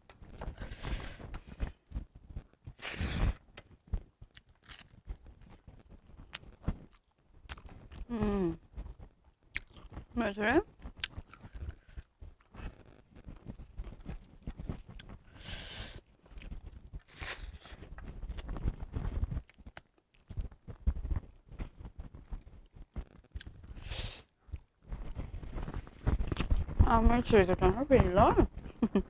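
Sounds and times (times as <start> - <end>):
chewing close to microphone: 0.2 - 26.8.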